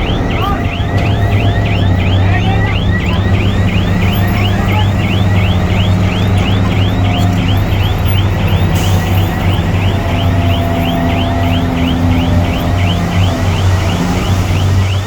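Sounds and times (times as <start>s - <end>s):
high-pitched chirp: 0.0s - 14.4s
diesel engine running: 0.0s - 15.0s.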